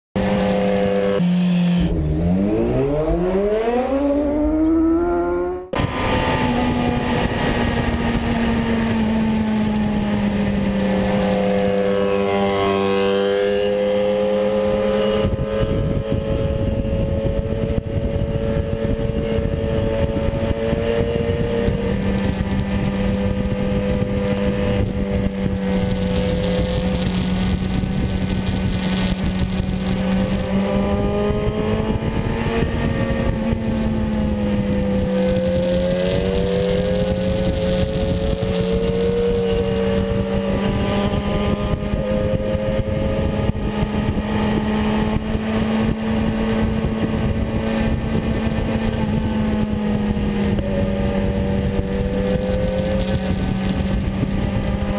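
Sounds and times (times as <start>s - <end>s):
motorcycle engine revving: 0.2s - 54.9s
wind rush: 0.2s - 54.9s.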